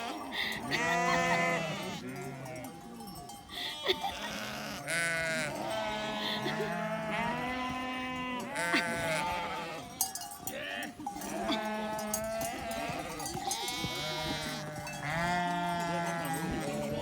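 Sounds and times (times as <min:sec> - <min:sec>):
sheep bleating: 0:00.0 - 0:02.8, 0:03.5 - 0:17.0.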